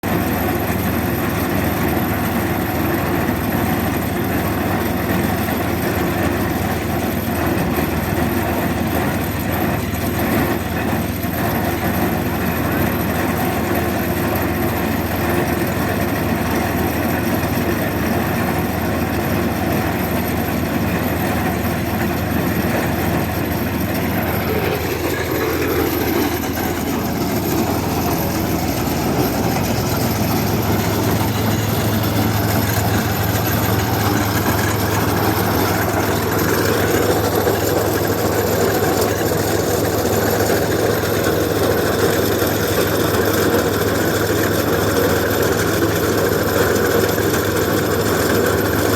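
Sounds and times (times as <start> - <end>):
heavy engine running: 0.0 - 48.9.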